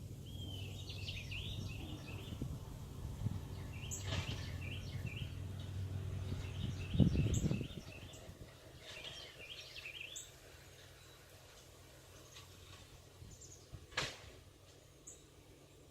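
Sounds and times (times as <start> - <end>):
songbirds chirping: 0.0 - 15.9.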